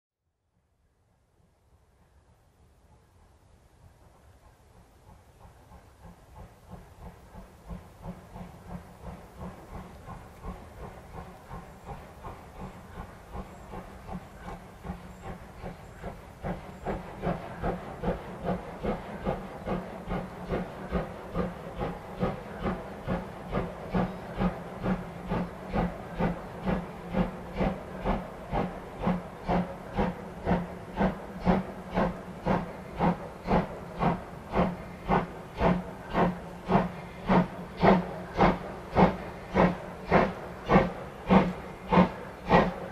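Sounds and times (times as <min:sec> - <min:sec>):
steam locomotives chuffing: 0:02.0 - 0:42.9.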